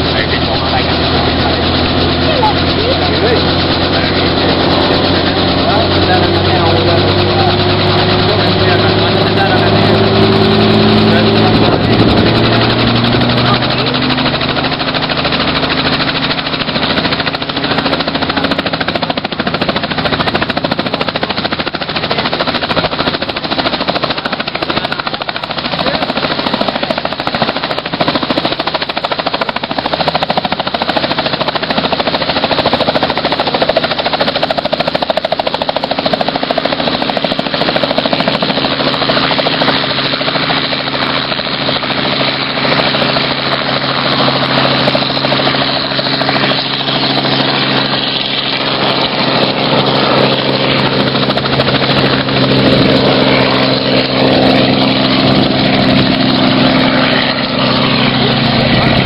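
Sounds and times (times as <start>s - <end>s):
helicopter engine running: 0.0s - 59.0s
helicopter rotor chop: 0.0s - 59.0s.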